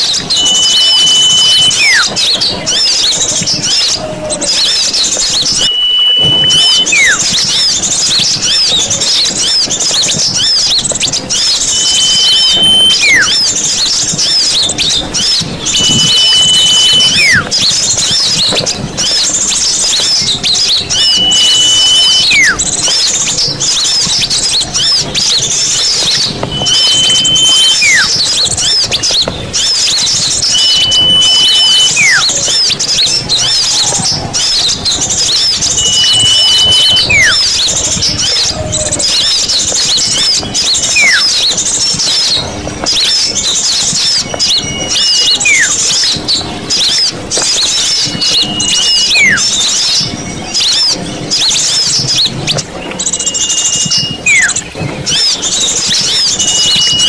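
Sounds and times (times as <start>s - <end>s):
chorus of small birds chirping: 0.0s - 57.0s
whistled call sliding down: 0.0s - 57.0s.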